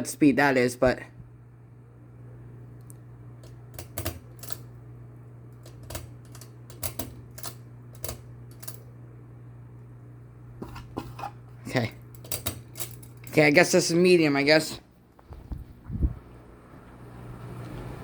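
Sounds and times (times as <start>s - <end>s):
ceiling fan motor humming: 0.0s - 18.0s.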